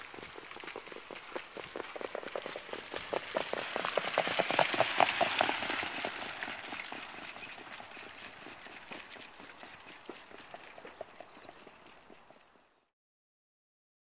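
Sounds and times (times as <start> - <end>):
horse hoofbeats on dirt track: 0.0 - 12.9.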